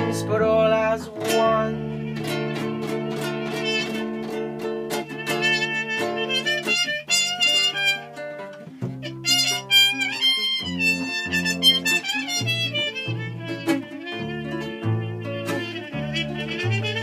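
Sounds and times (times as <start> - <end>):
acoustic guitar chords: 0.0 - 17.0
plucked double bass: 0.0 - 17.0
trumpet melody: 0.0 - 17.0.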